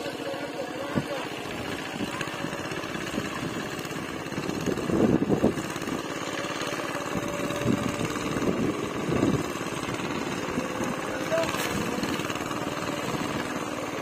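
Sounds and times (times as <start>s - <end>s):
small engine chugging: 0.0s - 14.0s.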